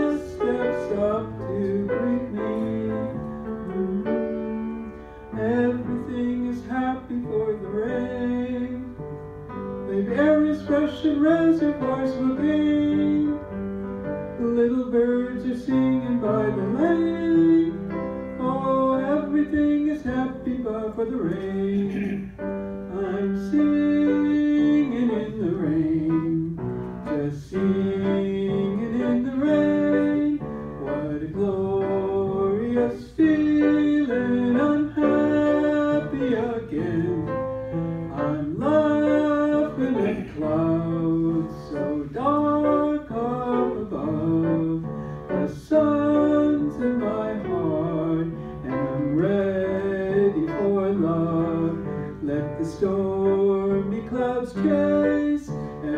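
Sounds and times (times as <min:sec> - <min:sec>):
instrumental accompaniment: 0:00.0 - 0:55.9.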